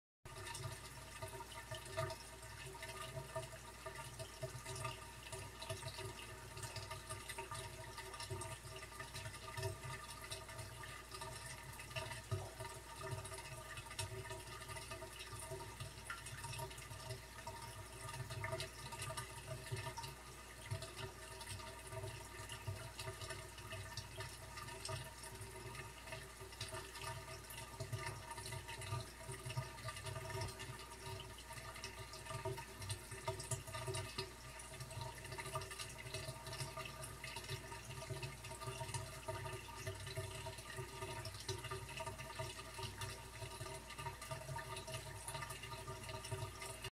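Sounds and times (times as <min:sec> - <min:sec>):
aquarium water trickling: 0:00.3 - 0:46.9.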